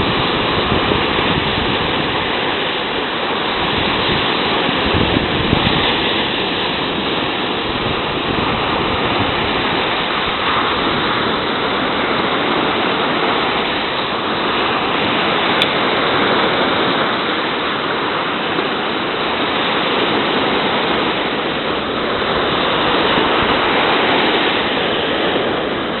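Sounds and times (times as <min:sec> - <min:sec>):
sea surf breaking on shore: 0:00.0 - 0:26.0.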